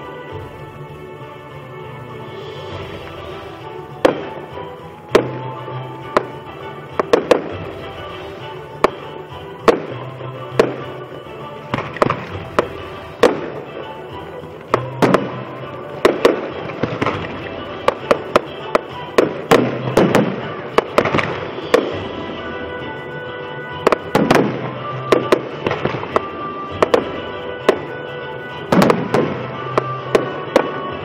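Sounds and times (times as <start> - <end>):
fireworks bursting with sharp bangs: 0.0 - 31.0
music playing: 0.0 - 31.0.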